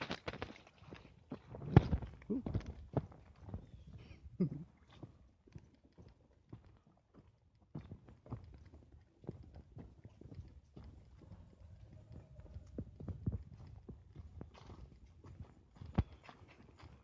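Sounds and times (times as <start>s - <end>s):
faint footsteps on trail: 0.0s - 4.2s, 4.9s - 17.0s.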